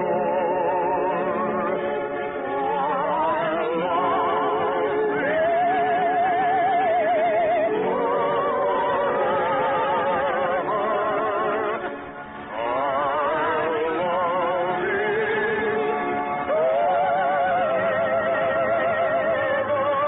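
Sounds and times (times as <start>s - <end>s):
operatic singers with vibrato: 0.0s - 11.9s, 12.5s - 20.0s.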